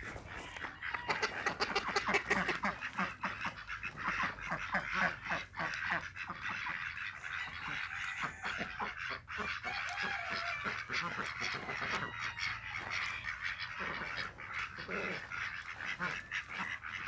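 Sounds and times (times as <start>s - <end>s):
flock of birds calling: 0.0s - 17.0s.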